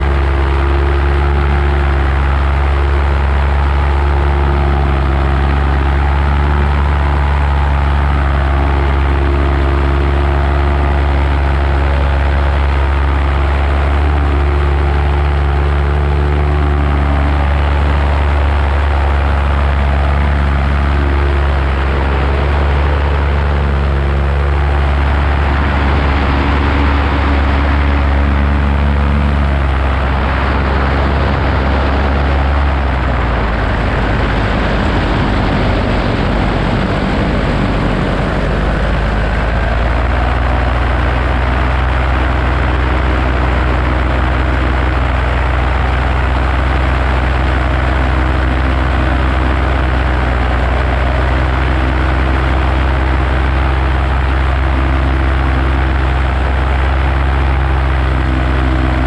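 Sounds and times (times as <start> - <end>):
paramotor engine and propeller: 0.0 - 59.0.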